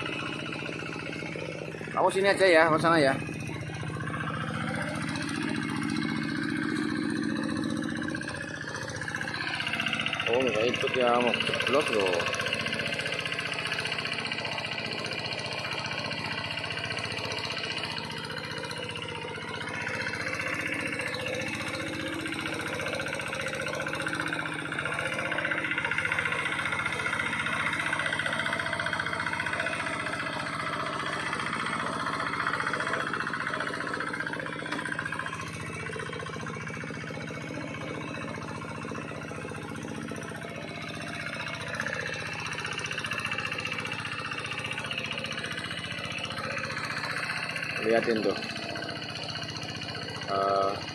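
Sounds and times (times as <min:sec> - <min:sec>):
hand tractor engine running: 0:00.0 - 0:50.9.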